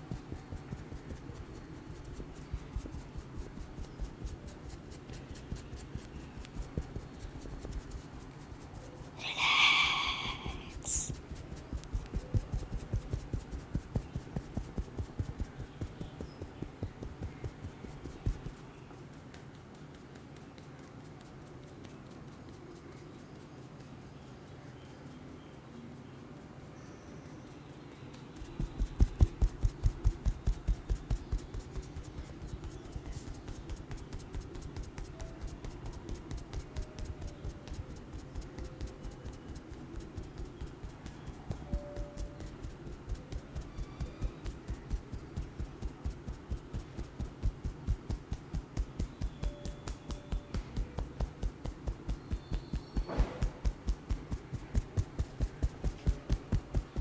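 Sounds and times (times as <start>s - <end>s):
hands tapping in percussive massage: 0.0s - 8.2s, 9.8s - 22.6s, 28.4s - 57.0s.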